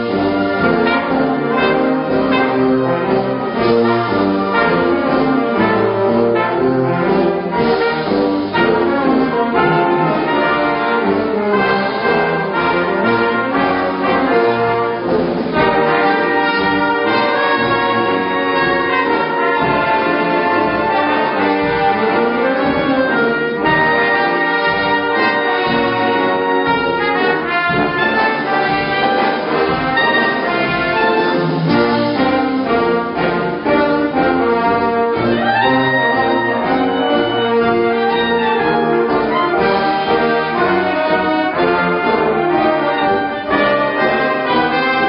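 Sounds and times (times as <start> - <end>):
orchestral music with brass: 0.0 - 45.0.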